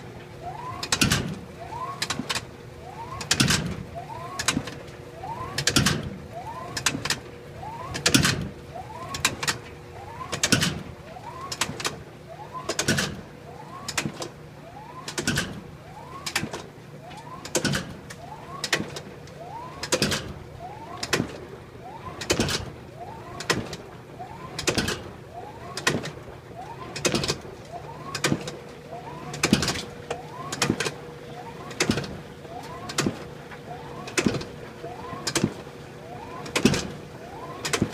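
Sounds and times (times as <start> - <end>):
washing machine motor hum: 0.0 - 37.9
washing machine knocking: 2.1 - 35.6, 36.2 - 37.9.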